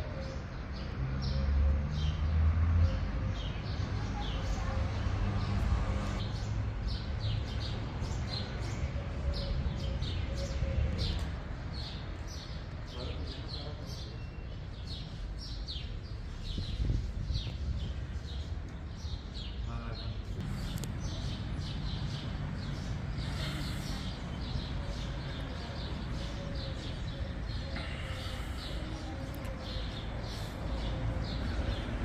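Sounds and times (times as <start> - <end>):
small birds chirping: 2.9 - 32.0.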